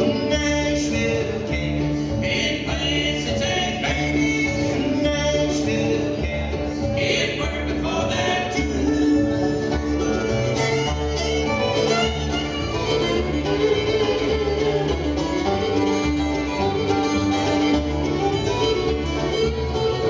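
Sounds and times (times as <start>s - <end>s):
acoustic guitar: 0.0s - 20.0s
banjo: 0.0s - 20.0s
fiddle leading: 0.0s - 20.0s
mandolin: 0.0s - 20.0s
upright bass: 0.0s - 20.0s.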